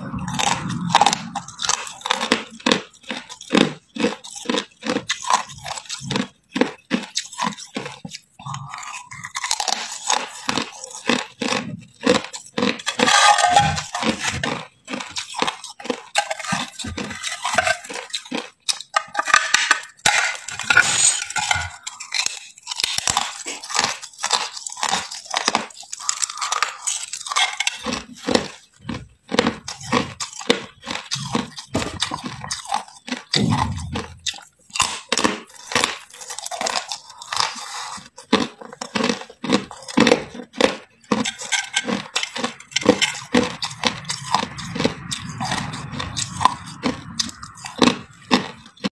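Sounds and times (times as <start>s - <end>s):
ice being chewed and crunched: 0.0s - 48.9s.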